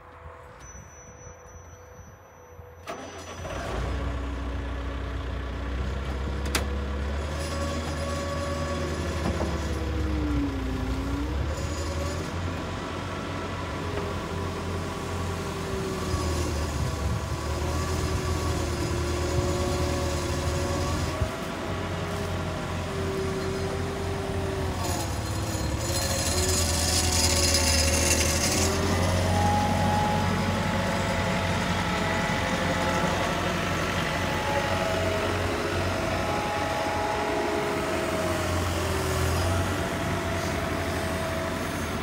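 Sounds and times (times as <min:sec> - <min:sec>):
diesel engine starting and running: 0:02.5 - 0:42.0.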